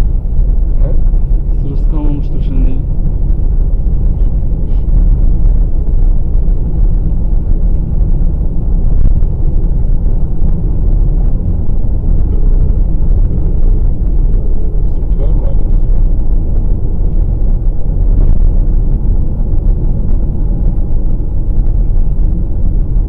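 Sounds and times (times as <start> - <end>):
car interior road noise: 0.0 - 23.0.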